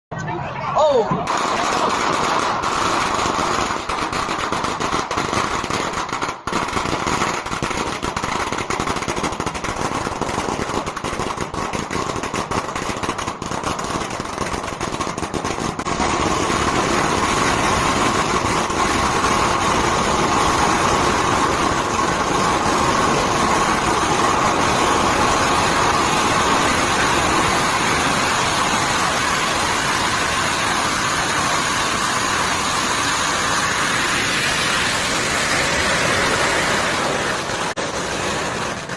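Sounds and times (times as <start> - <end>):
firecrackers crackling: 1.0 - 38.9.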